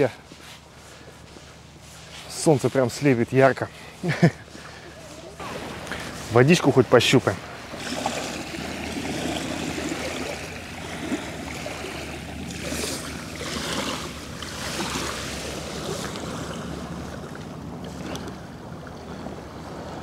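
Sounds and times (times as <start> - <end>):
small waves lapping at shore: 0.0 - 20.0.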